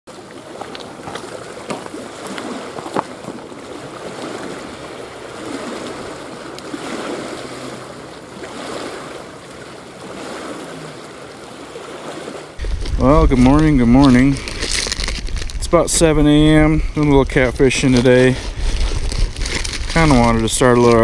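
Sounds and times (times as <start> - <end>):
waves lapping on rocky shore: 0.1 - 21.0.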